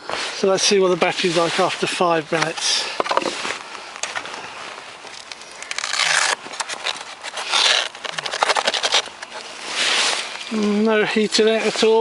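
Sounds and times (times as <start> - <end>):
rustling and scraping: 0.0 - 12.0.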